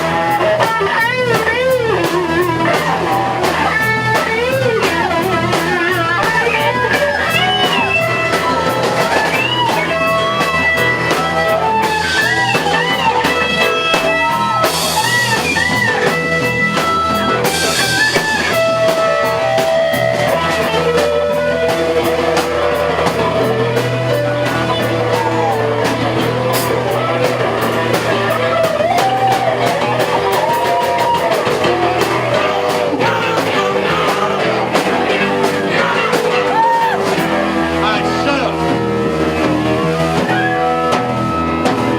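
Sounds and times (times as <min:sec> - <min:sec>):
electric guitar bending notes: 0:00.0 - 0:41.9
live rock band playing: 0:00.0 - 0:41.9.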